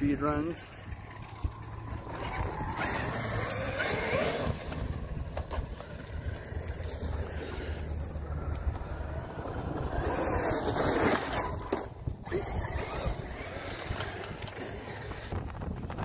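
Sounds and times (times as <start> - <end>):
rc truck driving on dirt: 0.0 - 16.0
wind on microphone: 0.2 - 16.0.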